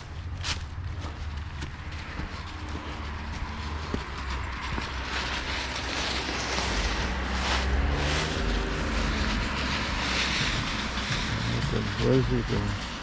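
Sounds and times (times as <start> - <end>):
wind rumbling on microphone: 0.0 - 13.0
rushing outdoor hiss: 2.0 - 13.0.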